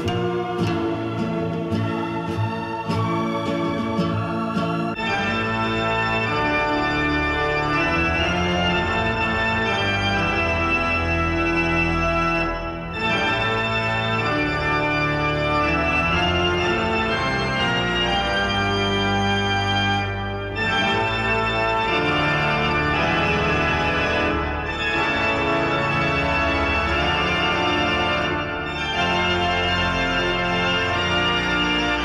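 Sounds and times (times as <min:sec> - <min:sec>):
organ playing held chords: 0:00.0 - 0:32.0.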